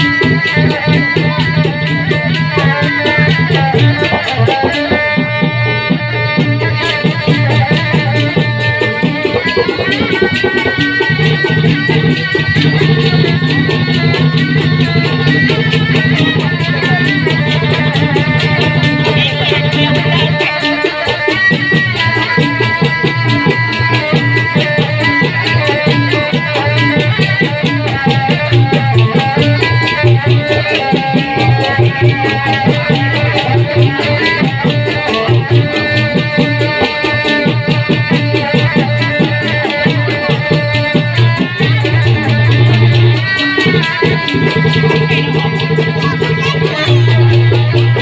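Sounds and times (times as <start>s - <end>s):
hand drums playing: 0.0s - 48.0s
held melodic notes: 0.0s - 48.0s.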